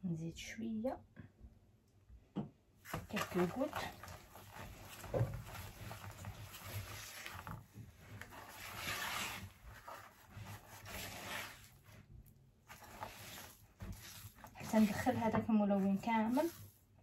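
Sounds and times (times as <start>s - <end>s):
icing squishing as stirred: 2.8s - 17.0s.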